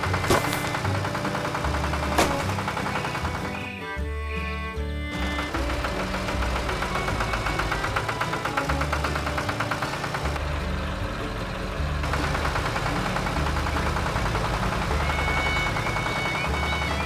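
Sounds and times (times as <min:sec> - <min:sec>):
combine harvester engine clattering: 0:00.0 - 0:17.0
low mechanical pulse: 0:00.0 - 0:17.0.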